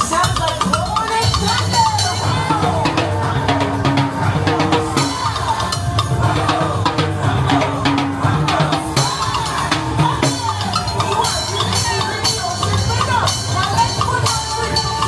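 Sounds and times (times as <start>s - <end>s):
drum beat and bass music: 0.0s - 15.0s
person singing: 0.0s - 15.0s.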